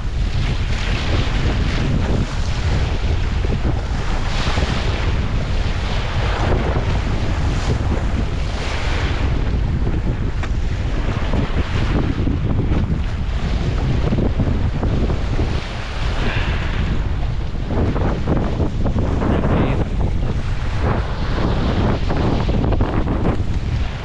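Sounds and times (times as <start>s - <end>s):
boat splashing through waves: 0.0s - 24.0s
water spraying off hull: 0.0s - 24.0s
wind buffeting microphone: 0.0s - 24.0s.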